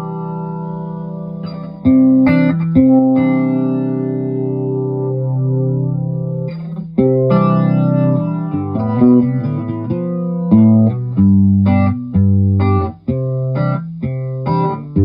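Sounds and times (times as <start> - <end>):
flanged electric guitar: 0.0 - 15.0.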